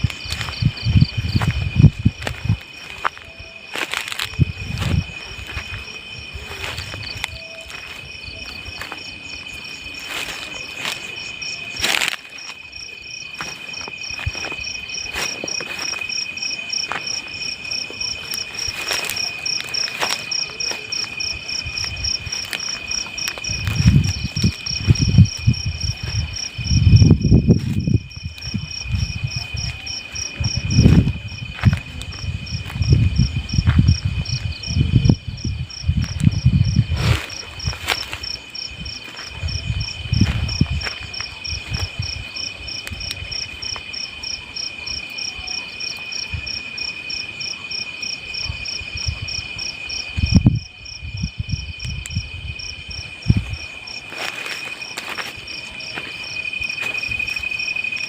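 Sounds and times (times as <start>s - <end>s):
night insects chirring: 0.0s - 58.0s.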